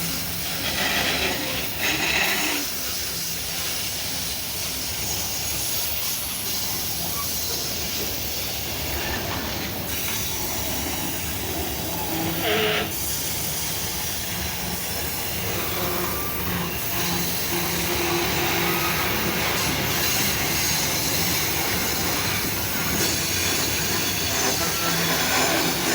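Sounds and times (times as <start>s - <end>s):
freight wagons rumbling on rails: 0.0s - 25.9s
wheel squeal: 0.0s - 25.9s.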